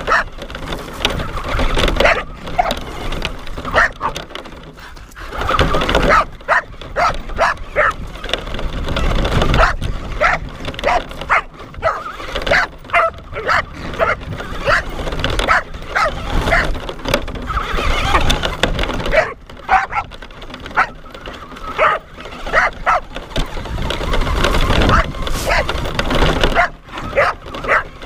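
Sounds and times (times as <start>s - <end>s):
dogs barking and yipping: 0.0s - 28.0s.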